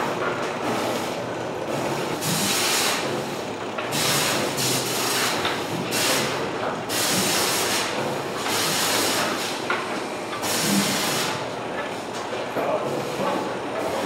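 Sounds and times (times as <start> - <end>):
machinery and conveyor noise: 0.0 - 14.0.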